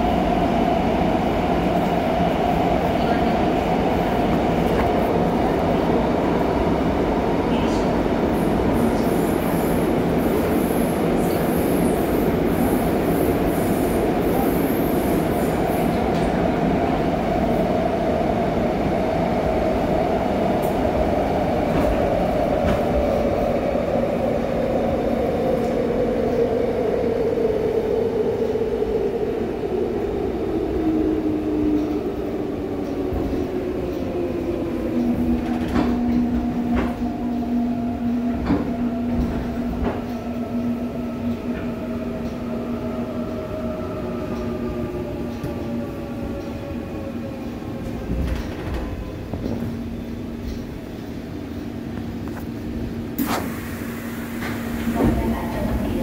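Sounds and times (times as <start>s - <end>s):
train wheels running on rails: 0.0s - 27.9s, 28.8s - 56.0s.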